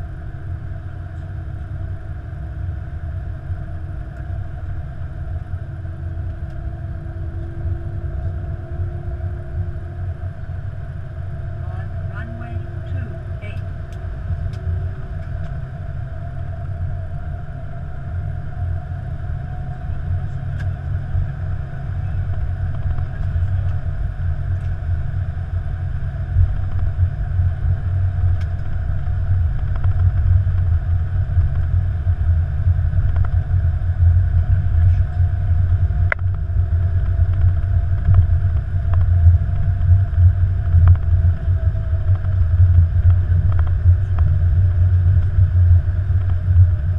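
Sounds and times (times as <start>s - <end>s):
aircraft low rumble: 0.0s - 46.9s
faint steady hum: 0.0s - 46.9s.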